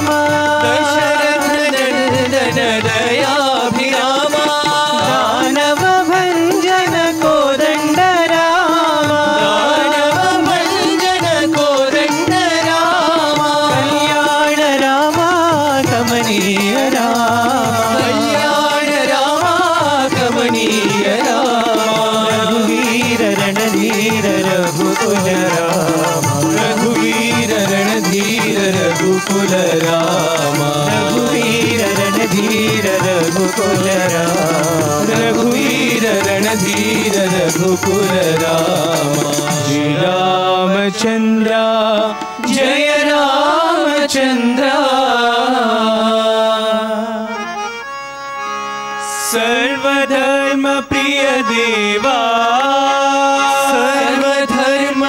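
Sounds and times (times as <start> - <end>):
tabla: 0.0 - 55.0.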